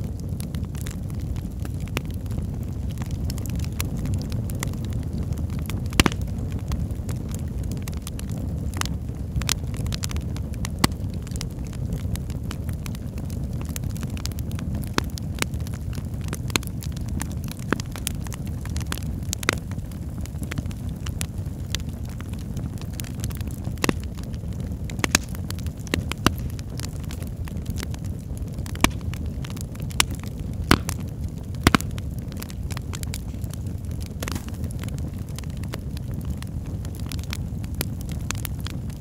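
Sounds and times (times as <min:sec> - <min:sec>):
low rumble of burning: 0:00.0 - 0:39.0
sharp pops of fire: 0:00.0 - 0:39.0
wood fire crackling: 0:00.0 - 0:39.0.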